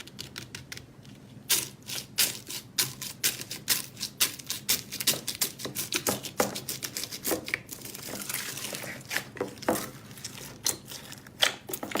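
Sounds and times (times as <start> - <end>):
slime crinkling stretch: 1.5 - 12.0.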